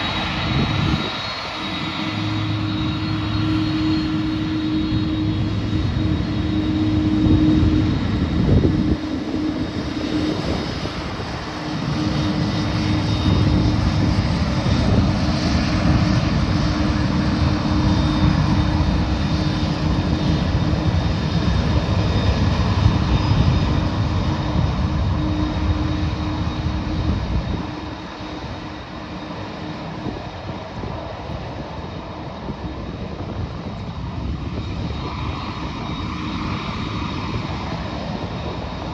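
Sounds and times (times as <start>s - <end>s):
jet engine roar: 0.0s - 38.9s
steady engine hum: 0.0s - 38.9s.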